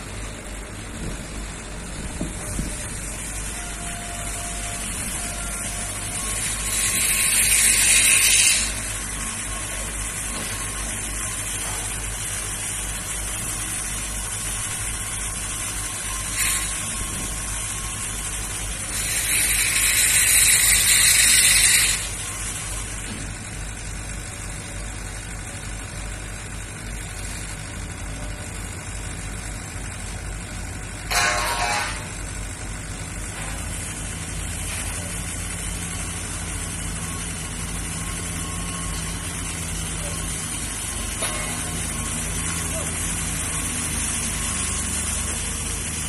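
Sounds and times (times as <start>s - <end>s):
crane engine running: 0.0s - 46.0s.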